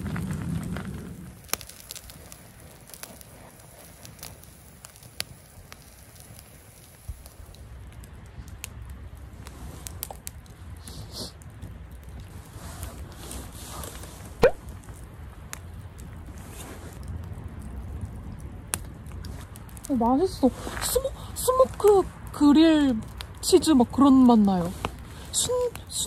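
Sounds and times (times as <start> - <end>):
campfire crackling: 0.0 - 26.0
sharp pops of fire: 0.0 - 26.0.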